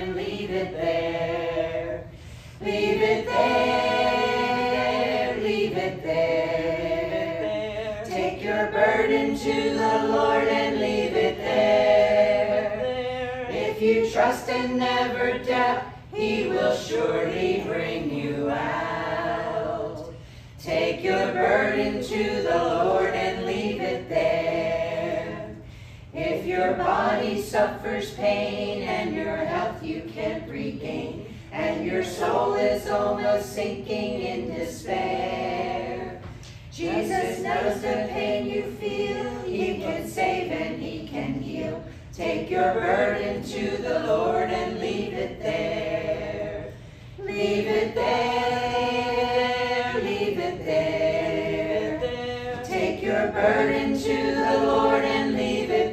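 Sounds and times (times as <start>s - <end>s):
group singing a hymn: 0.0s - 55.9s.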